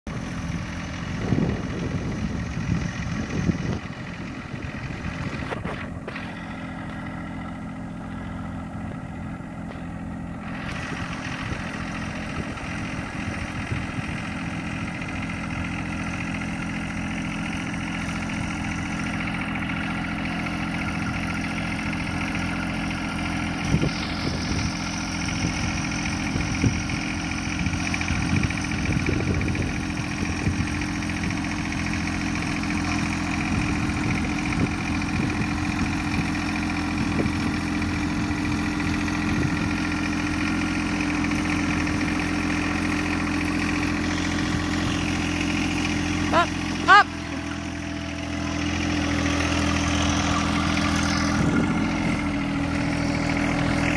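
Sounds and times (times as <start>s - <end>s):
tractor diesel engine running: 0.1s - 53.9s.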